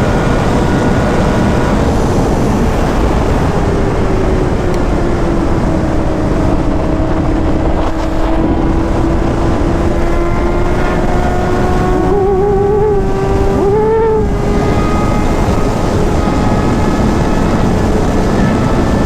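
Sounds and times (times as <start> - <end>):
motorcycle engine: 0.0 - 19.0
wind noise on microphone: 0.0 - 19.0.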